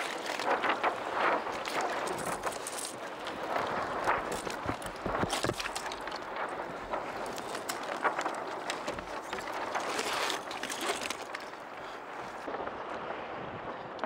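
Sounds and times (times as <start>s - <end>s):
water washing against kayak hull: 0.0s - 12.5s
wind noise on microphone: 0.0s - 14.0s.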